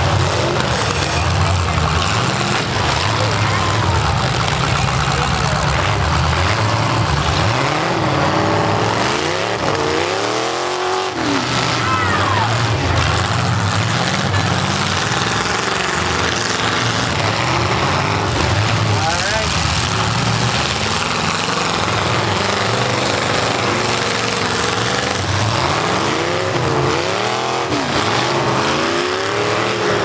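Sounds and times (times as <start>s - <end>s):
car engines running: 0.0s - 30.0s
engine revving: 0.0s - 30.0s.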